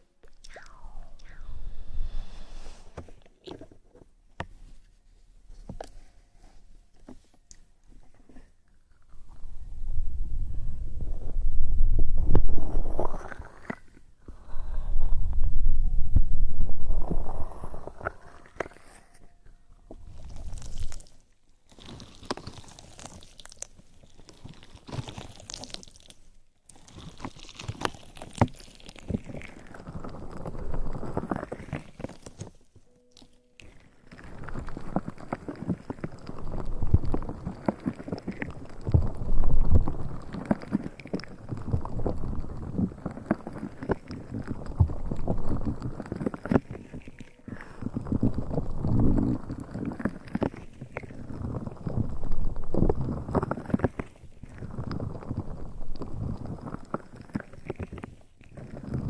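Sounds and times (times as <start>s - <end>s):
crackling and rustling on microphone: 0.0s - 59.0s.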